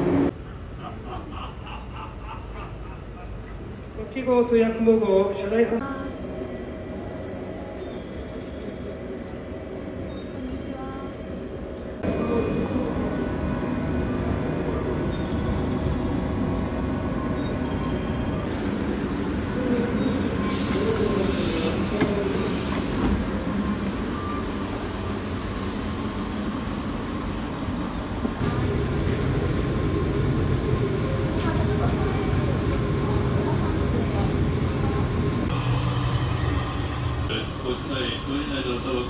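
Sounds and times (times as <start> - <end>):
train rumble and hum: 0.0 - 39.0.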